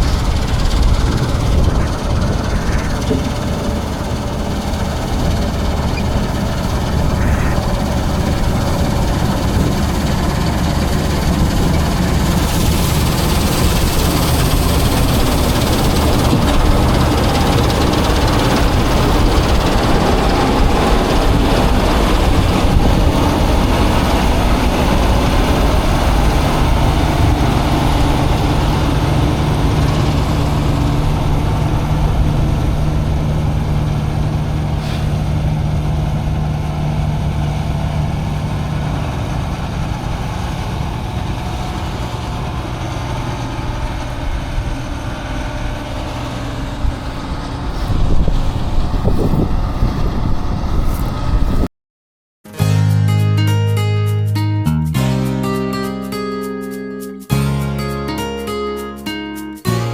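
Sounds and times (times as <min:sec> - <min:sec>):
combine harvester engine drone: 0:00.0 - 0:51.7.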